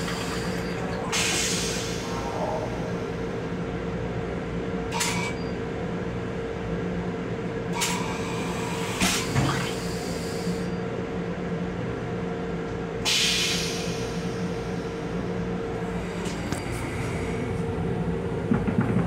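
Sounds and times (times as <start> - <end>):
train hum and rumble: 0.0 - 19.0.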